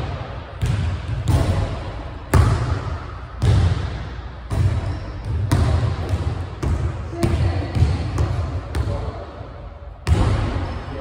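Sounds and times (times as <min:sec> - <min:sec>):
basketball hitting gym floor: 0:00.0 - 0:09.3, 0:10.0 - 0:11.0.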